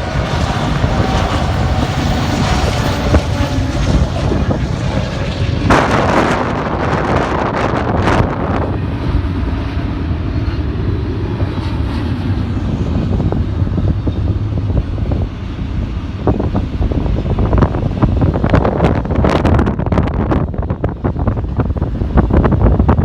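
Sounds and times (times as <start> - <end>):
freight train rumbling: 0.0 - 23.0
wind buffeting microphone: 0.0 - 23.0.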